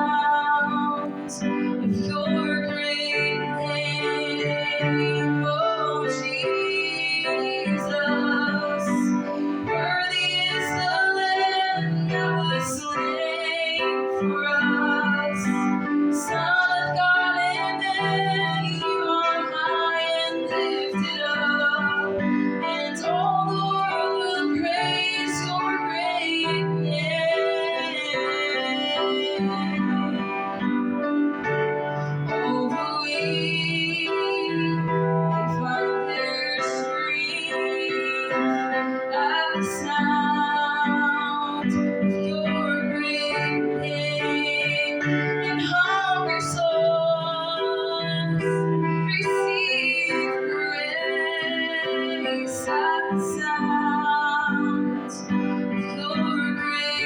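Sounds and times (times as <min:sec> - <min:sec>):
woman singing: 0:00.0 - 0:31.1, 0:31.8 - 0:57.0
keyboard accompaniment: 0:00.0 - 0:57.0.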